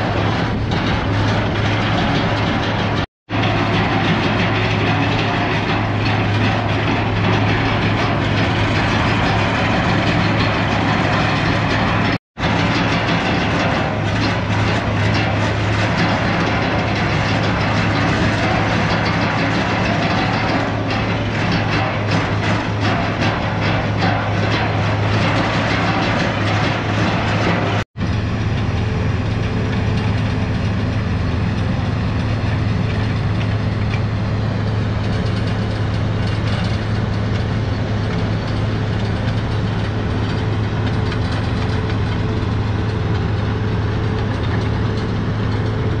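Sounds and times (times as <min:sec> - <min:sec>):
diesel machinery engine drone: 0:00.0 - 0:46.0.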